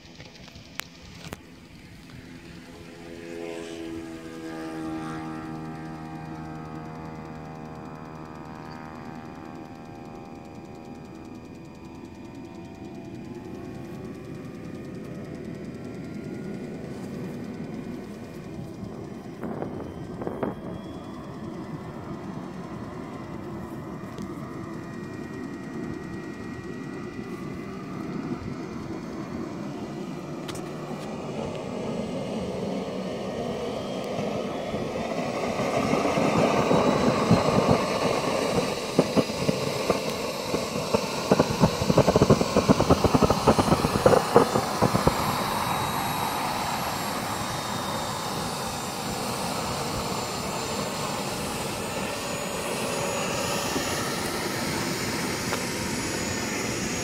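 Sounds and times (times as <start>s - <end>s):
model helicopter turbine whine: 0.0s - 57.0s
rotor blades fluttering: 0.0s - 57.0s.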